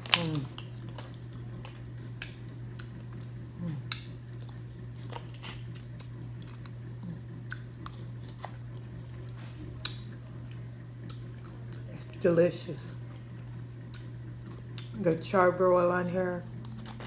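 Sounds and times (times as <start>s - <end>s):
person chewing: 0.0s - 12.2s, 13.4s - 15.0s, 16.5s - 17.0s
steady low hum: 0.0s - 17.0s.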